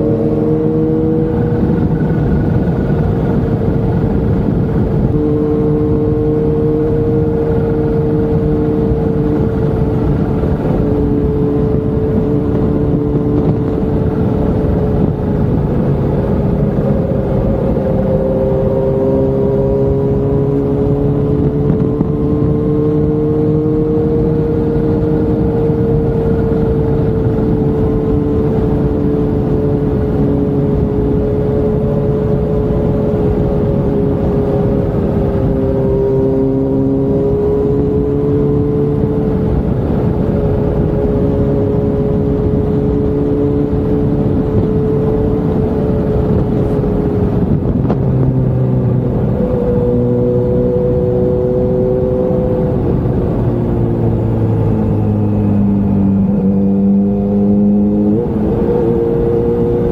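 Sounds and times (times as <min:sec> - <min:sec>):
motorcycle engine cruising: 0:00.0 - 0:59.9
wind noise on microphone: 0:00.0 - 0:59.9.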